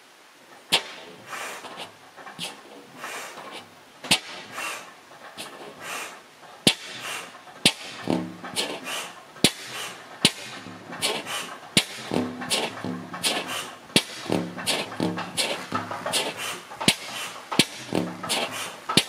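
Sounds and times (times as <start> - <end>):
soft engine puffs: 0.0 - 19.0
engine exhaust bangs: 0.6 - 19.0.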